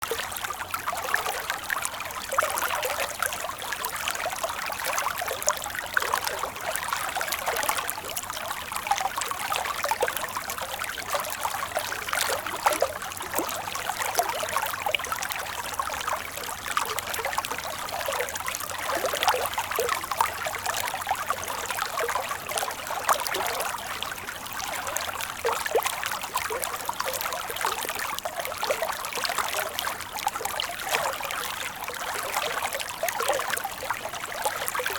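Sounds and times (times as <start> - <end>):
water babbling in a stream: 0.0 - 34.9.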